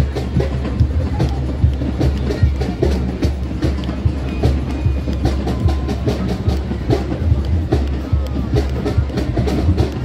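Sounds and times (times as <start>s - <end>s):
drums beating fast rhythm: 0.0s - 10.0s.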